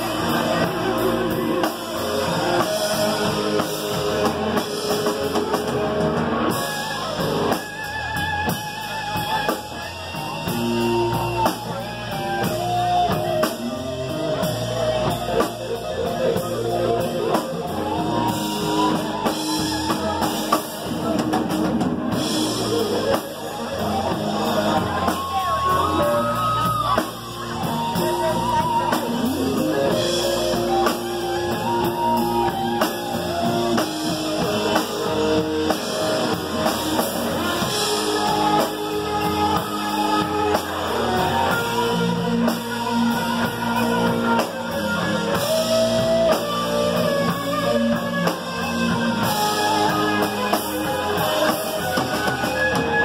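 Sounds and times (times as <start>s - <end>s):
lead guitar bending notes: 0.0s - 53.0s
live rock band playing: 0.0s - 53.0s.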